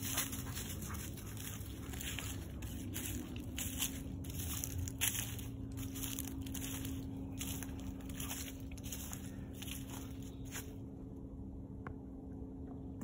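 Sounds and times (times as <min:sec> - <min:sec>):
footsteps crunching dry leaves: 0:00.0 - 0:10.9.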